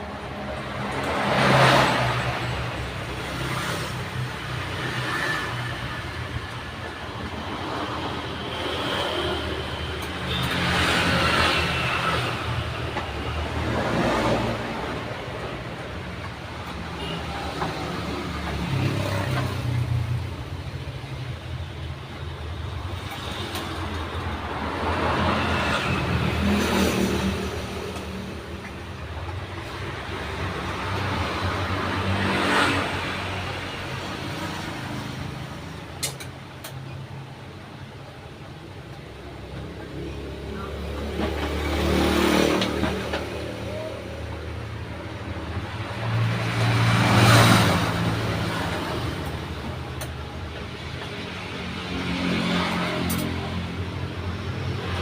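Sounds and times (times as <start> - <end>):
passing road traffic hum: 0.0 - 55.0.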